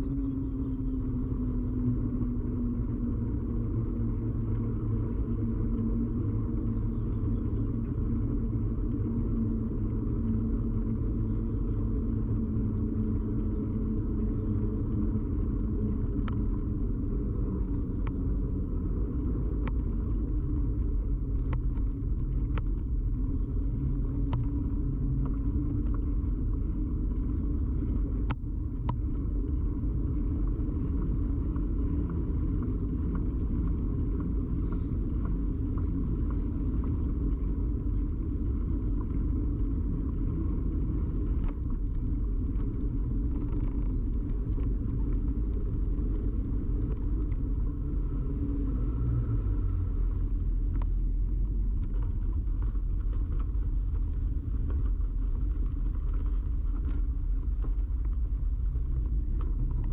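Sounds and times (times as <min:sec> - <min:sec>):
bicycle ride rumble: 0:00.0 - 0:59.9.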